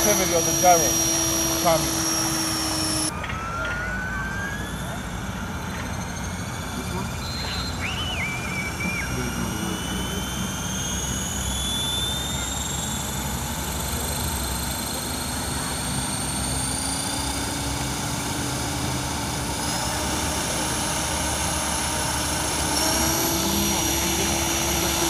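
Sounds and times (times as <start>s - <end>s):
electric motor and gears whining: 0.0s - 25.0s
rotor blades whirring: 0.0s - 25.0s.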